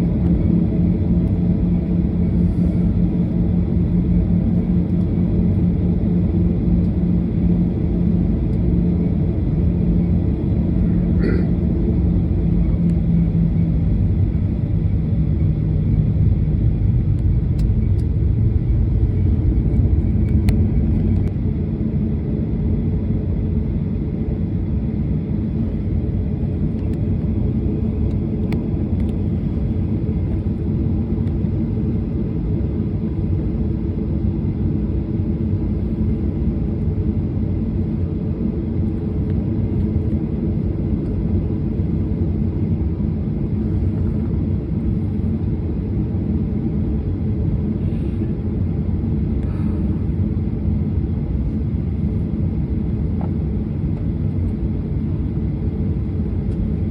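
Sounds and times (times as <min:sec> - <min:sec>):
jet engines idling in cabin: 0:00.0 - 0:56.9.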